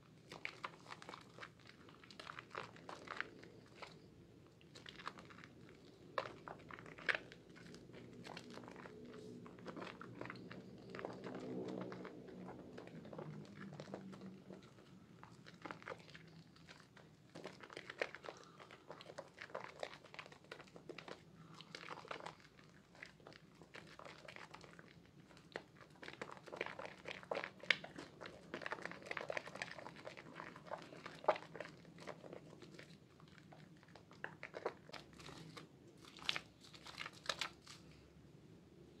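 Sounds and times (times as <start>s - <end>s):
foam bubbles crackling: 0.0s - 37.5s
wet soap lather squishing: 0.0s - 38.1s.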